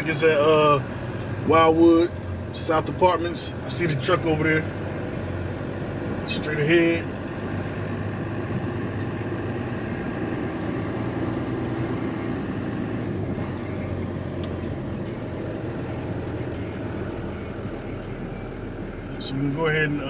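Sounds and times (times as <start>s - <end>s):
road noise: 0.0s - 20.0s
truck engine running: 0.0s - 20.0s.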